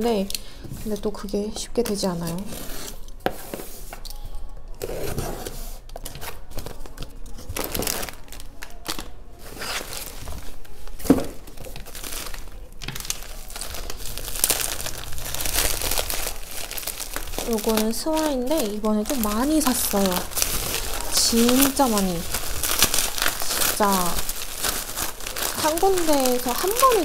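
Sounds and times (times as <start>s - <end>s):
packaging crinkling and tearing: 4.8s - 27.0s.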